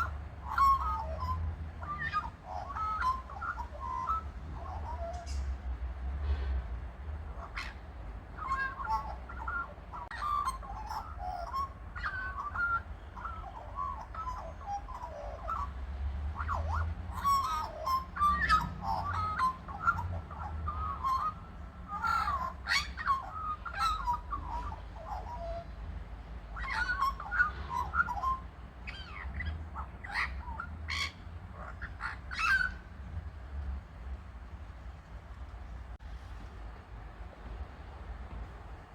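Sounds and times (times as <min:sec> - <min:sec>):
birds warbling: 0:00.0 - 0:05.8, 0:06.9 - 0:33.6
steady low rumble: 0:00.0 - 0:38.9.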